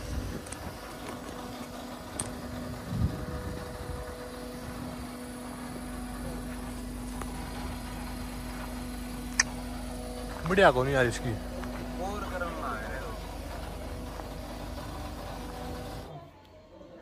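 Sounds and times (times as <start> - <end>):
machine humming: 0.0 - 16.9.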